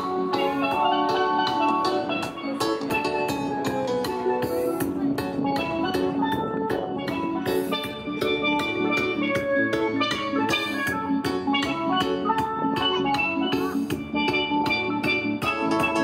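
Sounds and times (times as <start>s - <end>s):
steel pans playing melody: 0.0s - 16.0s.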